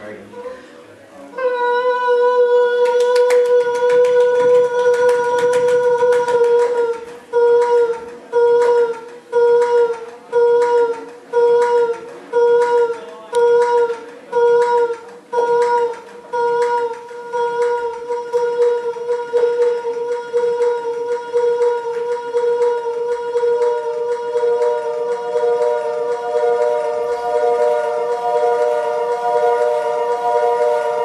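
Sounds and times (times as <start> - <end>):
processed sung voice drone: 1.3 - 31.0.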